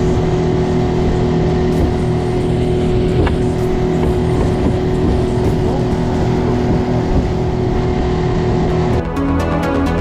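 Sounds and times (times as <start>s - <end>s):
outboard motor drone: 0.0s - 10.0s
rushing wake and spray: 0.0s - 10.0s.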